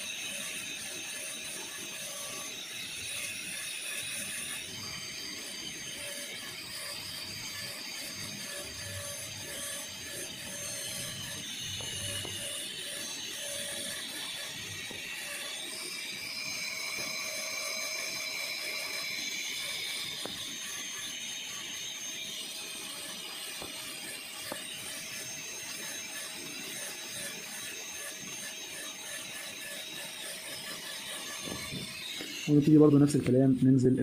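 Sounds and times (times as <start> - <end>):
dental drill whining and grinding: 0.0 - 34.0.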